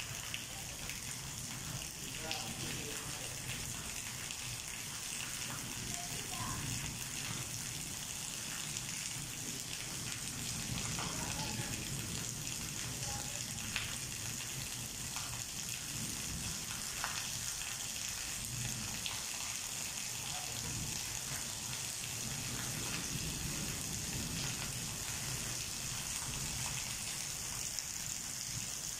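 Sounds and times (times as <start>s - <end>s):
heavy rain on paving and leaves: 0.0s - 28.9s.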